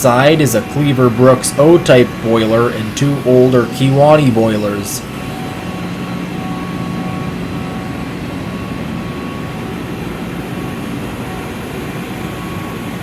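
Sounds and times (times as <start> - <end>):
boiler burners roaring: 0.0 - 13.0
constant low hum: 0.0 - 13.0.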